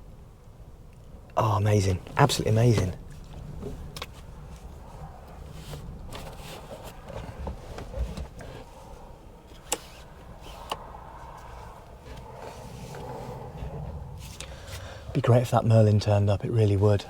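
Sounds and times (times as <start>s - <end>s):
gusty wind rumble: 0.1s - 16.5s.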